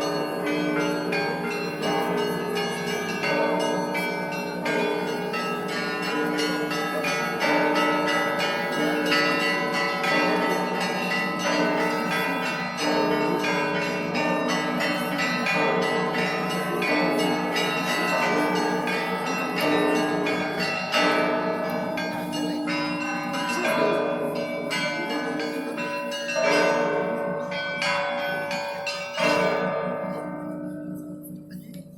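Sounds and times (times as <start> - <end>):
deep bells ringing: 0.0 - 31.9
small high bells chiming: 0.0 - 31.9.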